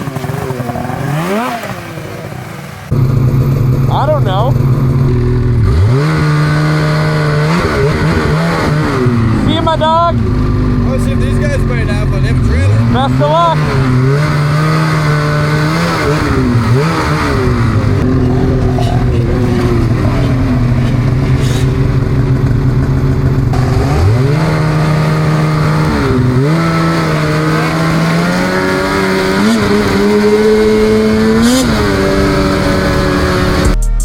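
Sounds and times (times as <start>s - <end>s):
snowmobile engine running: 0.0s - 33.8s.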